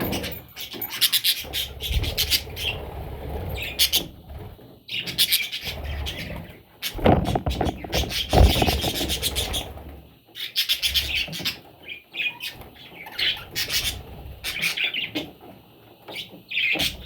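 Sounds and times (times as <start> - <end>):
budgies chirping: 0.0 - 4.2, 4.9 - 17.0.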